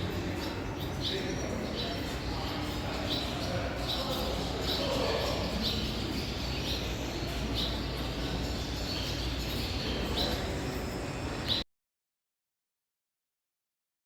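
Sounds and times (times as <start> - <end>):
steady low hum: 0.0 - 11.6
swallows chirping: 0.0 - 11.6.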